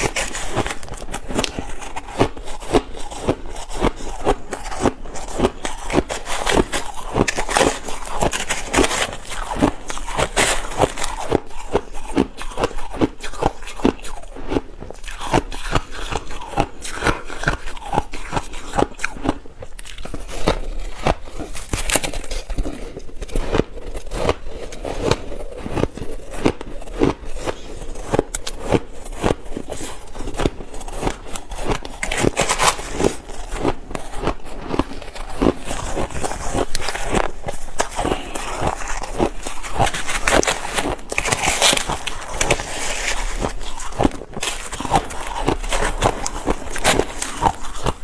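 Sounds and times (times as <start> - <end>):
ice being chewed: 0.0 - 48.0.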